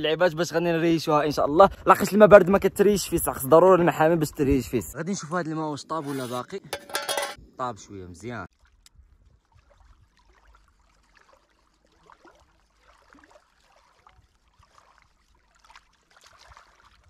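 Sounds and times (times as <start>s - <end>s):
faint lake water at shore: 0.0s - 17.0s.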